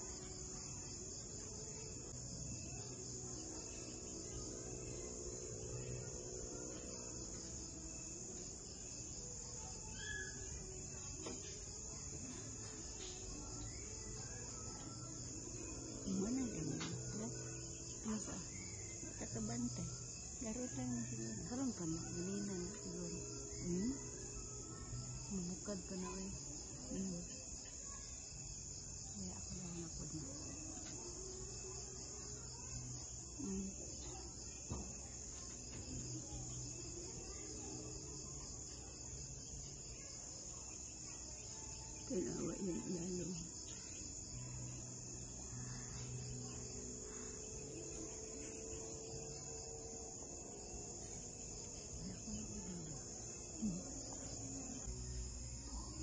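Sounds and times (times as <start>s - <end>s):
crickets trilling: 0.0s - 56.0s
faint distant talking: 0.0s - 56.0s.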